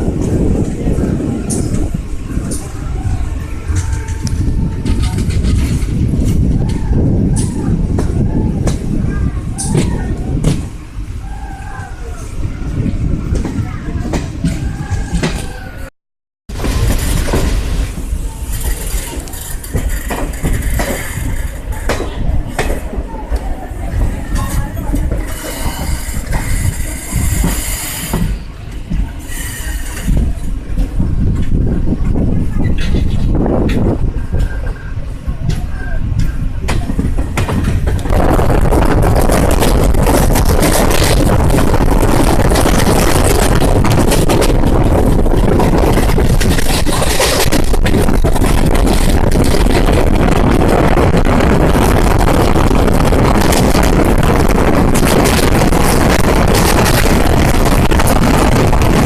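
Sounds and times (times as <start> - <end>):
train wheels rumbling on rails: 0.0 - 15.9, 16.5 - 59.0
wind on microphone: 0.0 - 15.9, 16.5 - 59.0.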